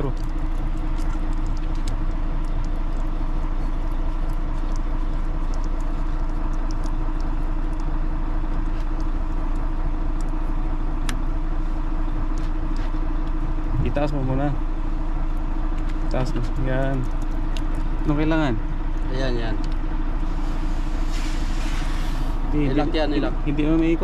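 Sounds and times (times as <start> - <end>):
truck engine humming: 0.0 - 24.0.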